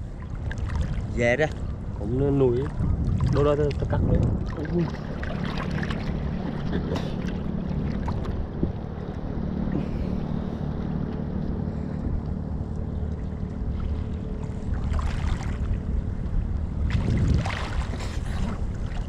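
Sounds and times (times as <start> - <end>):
boat engine rumbling: 0.0 - 19.0
water sloshing: 0.0 - 19.0.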